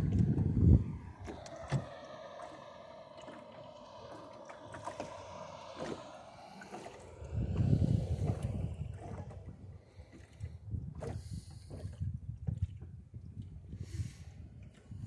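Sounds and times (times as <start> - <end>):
water gurgling along boat hull: 0.0 - 15.0
wind rumble on microphone: 0.0 - 15.0.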